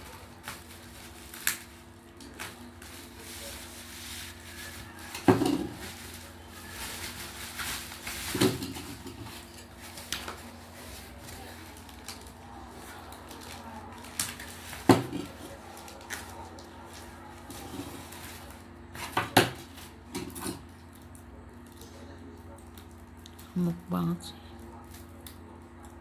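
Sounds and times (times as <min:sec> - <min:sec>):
bubble wrap rustling and crinkling: 0:00.0 - 0:26.0.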